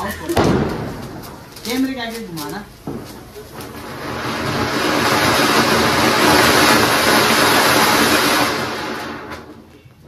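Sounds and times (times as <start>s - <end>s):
firework fountain hissing: 0.0s - 9.7s.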